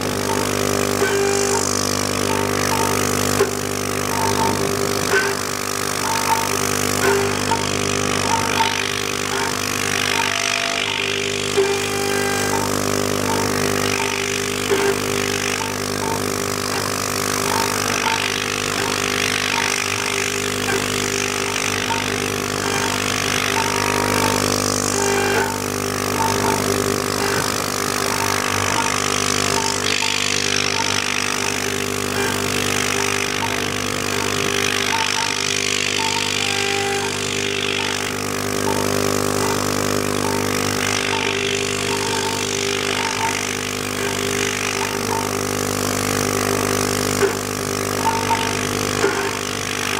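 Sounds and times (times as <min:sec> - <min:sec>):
end mill cutting metal: 0:00.0 - 0:49.9
router spindle humming: 0:00.0 - 0:49.9.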